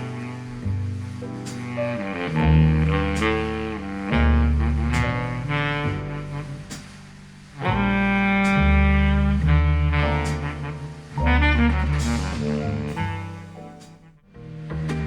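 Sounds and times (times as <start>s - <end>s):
deep bass: 0.0s - 15.0s.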